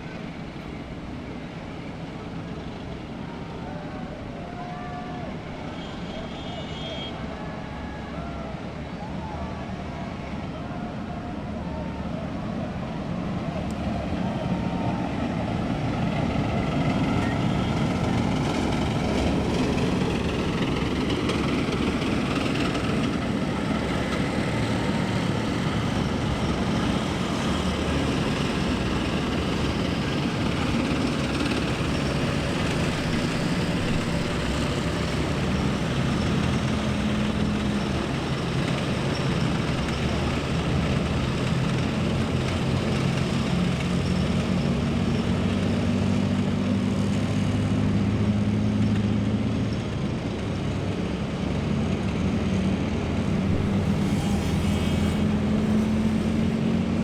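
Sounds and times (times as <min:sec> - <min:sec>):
road and track noise: 0:00.0 - 0:57.0
tank engine droning: 0:00.0 - 0:57.0.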